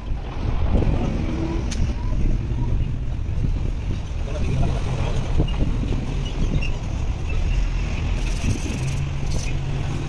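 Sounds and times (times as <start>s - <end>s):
engine rumble: 0.0s - 10.0s.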